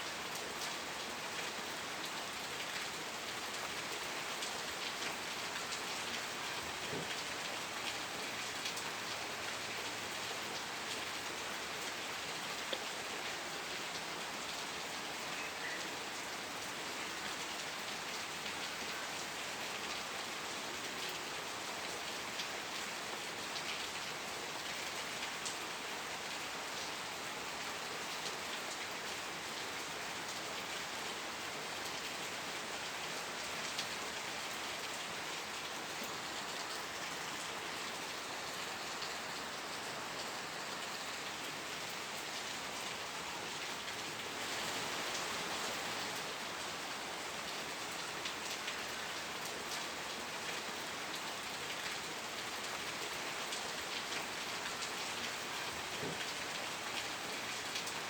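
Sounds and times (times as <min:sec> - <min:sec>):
steady rain: 0:00.0 - 0:58.0
raindrops pattering on surface: 0:00.2 - 0:58.0.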